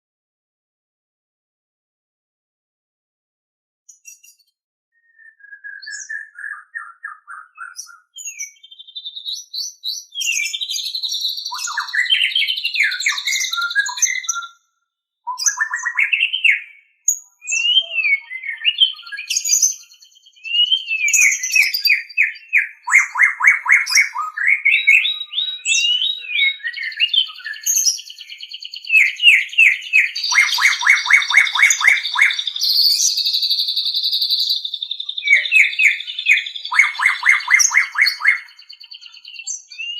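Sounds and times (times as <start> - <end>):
songbird singing whistled phrases: 3.9 - 39.9.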